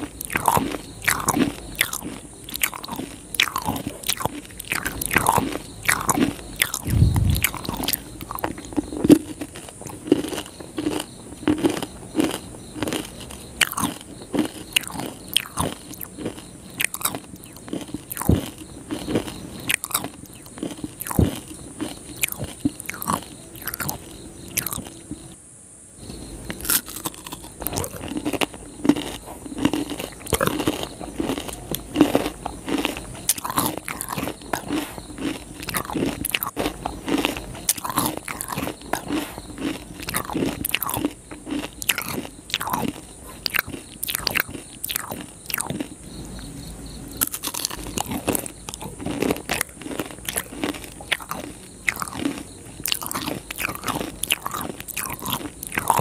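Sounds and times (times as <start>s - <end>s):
crunching and chewing: 0.0s - 25.4s, 26.0s - 56.0s.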